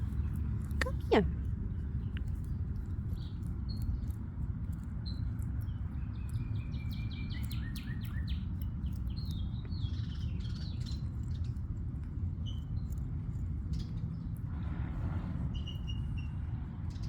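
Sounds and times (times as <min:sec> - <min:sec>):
songbirds chirping: 0:00.0 - 0:17.0
steady low rumble: 0:00.0 - 0:17.0.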